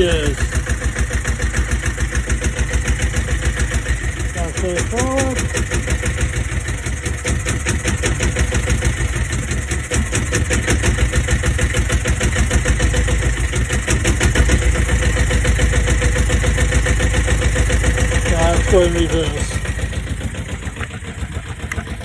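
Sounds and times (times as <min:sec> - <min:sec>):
diesel engine knocking: 0:00.0 - 0:22.0.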